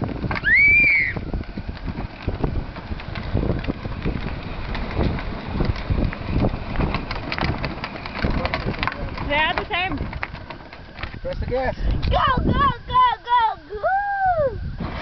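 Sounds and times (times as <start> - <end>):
plastic wheels rattling on asphalt: 0.0 - 13.9, 14.6 - 15.0
wind noise on microphone: 0.0 - 15.0.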